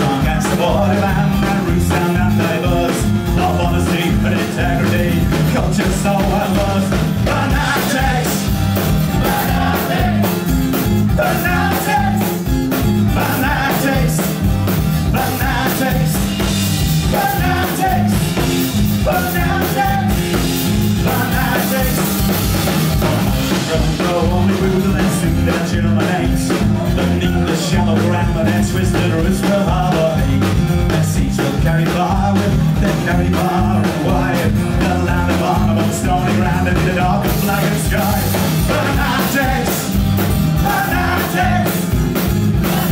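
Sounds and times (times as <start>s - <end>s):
drum kit: 0.0s - 42.9s
electric bass: 0.0s - 42.9s.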